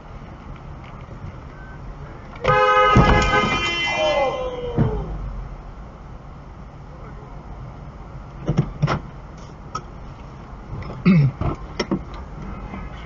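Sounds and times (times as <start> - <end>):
car running on road: 0.0 - 13.0.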